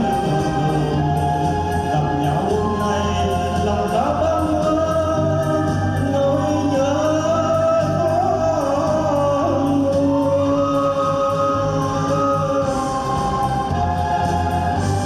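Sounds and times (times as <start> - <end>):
instrumental accompaniment: 0.0 - 15.0
person singing long notes: 0.0 - 15.0.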